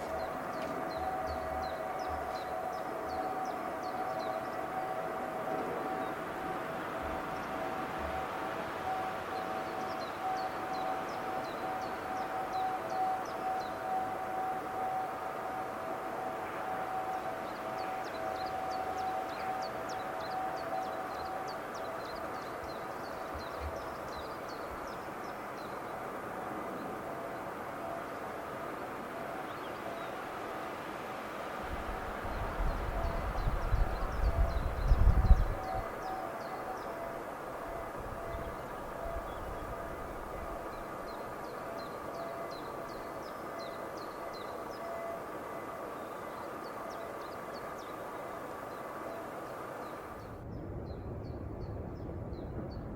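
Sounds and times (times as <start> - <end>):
faint steady tone: 0.0 - 50.8
songbird chirping: 0.0 - 51.8
outdoor background noise: 0.0 - 52.9.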